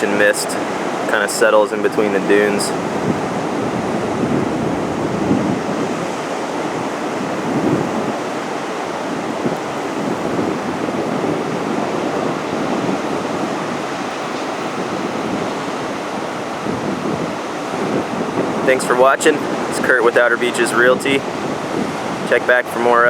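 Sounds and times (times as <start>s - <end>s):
ocean surf breaking on beach: 0.0s - 23.0s
wind on microphone: 0.0s - 23.0s.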